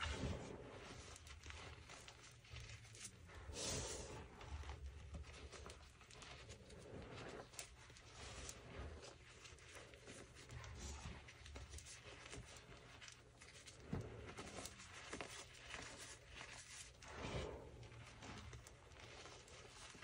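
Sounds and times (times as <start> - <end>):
hands crunching powdered chalk: 0.0 - 20.0.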